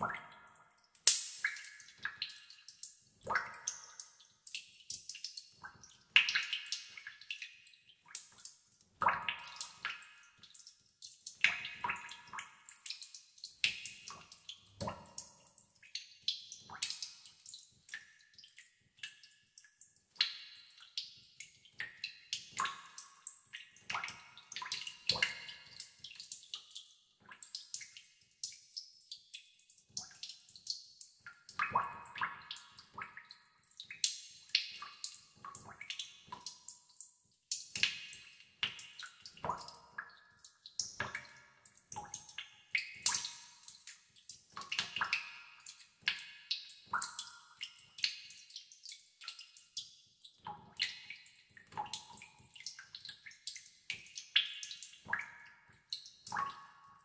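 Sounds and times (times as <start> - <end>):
water drops plinking into pool: 0.0 - 57.0.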